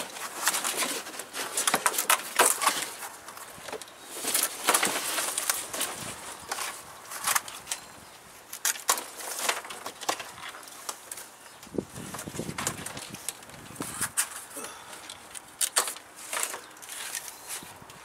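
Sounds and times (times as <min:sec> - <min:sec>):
plastic straps snapping and crinkling: 0:00.0 - 0:18.0.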